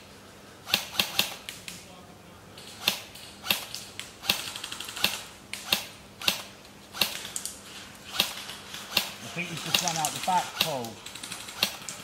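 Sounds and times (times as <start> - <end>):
airsoft rifle shots: 0.6 - 1.6, 2.6 - 7.4, 8.1 - 12.0.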